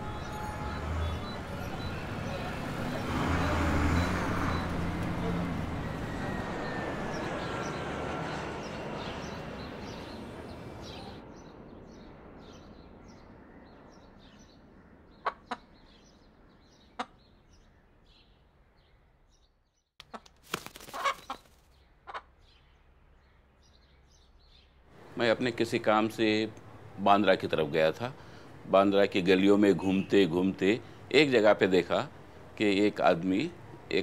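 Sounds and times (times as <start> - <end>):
street traffic noise: 0.0 - 18.4, 20.0 - 34.0.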